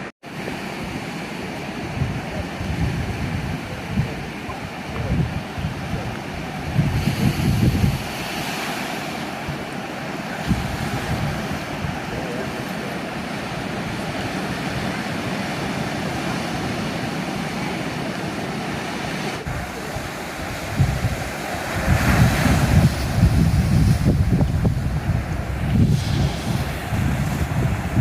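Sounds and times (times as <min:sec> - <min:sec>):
sea waves washing on shore: 0:00.0 - 0:28.0
wind buffeting microphone: 0:00.4 - 0:28.0.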